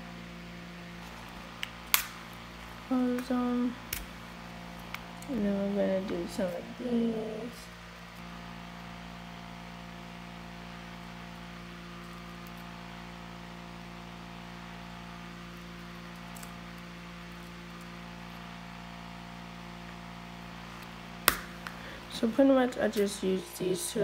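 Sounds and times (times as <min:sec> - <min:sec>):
electrical hum with hiss: 0:00.0 - 0:24.0.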